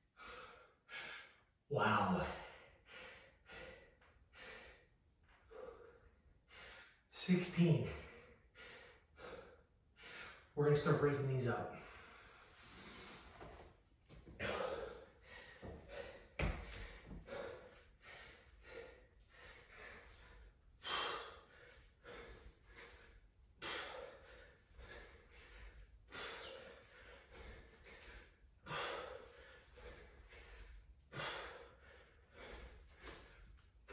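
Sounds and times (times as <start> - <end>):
man panting hard: 0.0 - 10.6, 11.7 - 13.4, 14.4 - 33.9.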